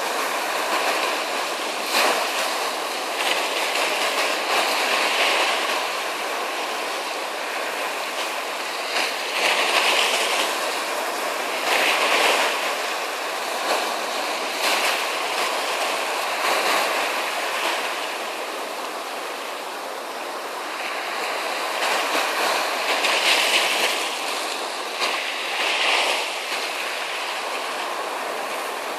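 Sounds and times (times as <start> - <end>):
ocean waves breaking on shore: 0.0 - 28.9.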